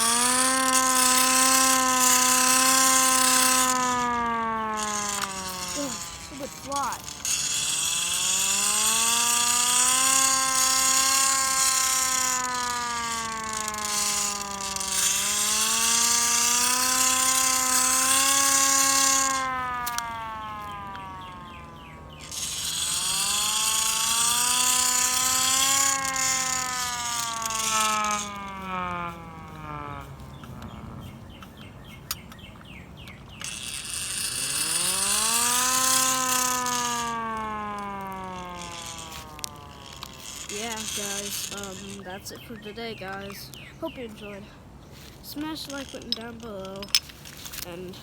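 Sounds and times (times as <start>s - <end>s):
hand-cranked air raid siren: 0.0s - 32.1s, 33.1s - 42.1s.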